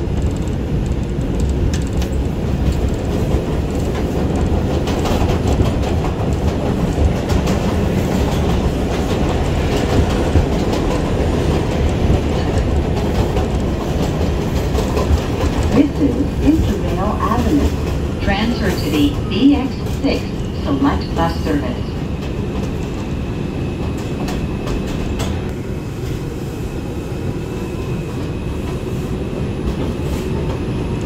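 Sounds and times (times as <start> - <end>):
clickety-clack of rail joints: 0.0 - 26.3, 27.9 - 31.0
passing subway train: 0.0 - 31.0
wheels rumbling on rail: 0.0 - 31.0.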